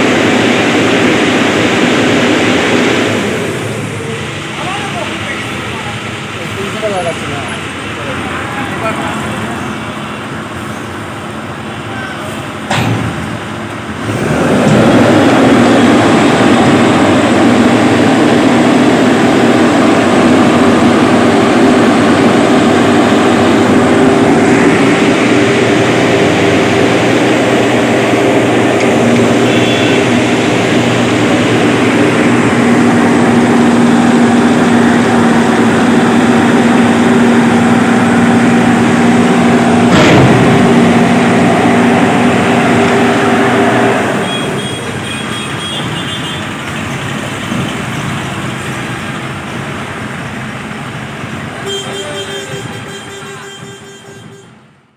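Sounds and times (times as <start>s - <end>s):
heavy engine running: 0.0s - 54.9s.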